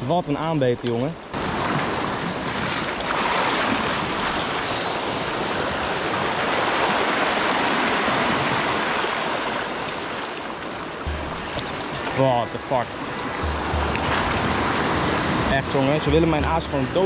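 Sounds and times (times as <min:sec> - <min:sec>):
sea surf washing in: 0:01.4 - 0:17.0.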